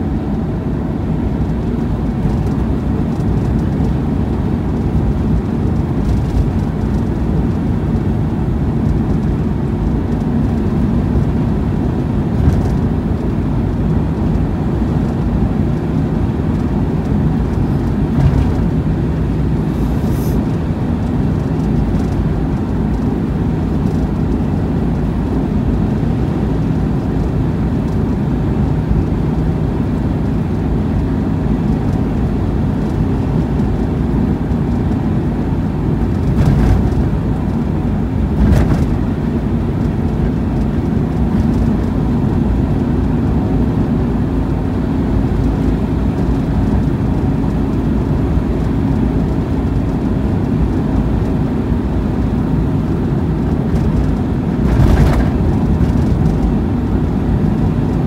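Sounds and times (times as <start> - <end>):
car engine hum: 0.0 - 58.0
tyre road noise: 0.1 - 58.0.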